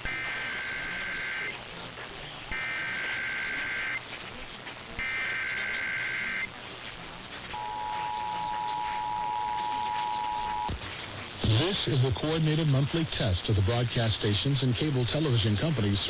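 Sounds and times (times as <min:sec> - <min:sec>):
harsh modem-like data tones: 0:00.0 - 0:04.1, 0:04.9 - 0:16.0
steady hiss: 0:00.0 - 0:16.0.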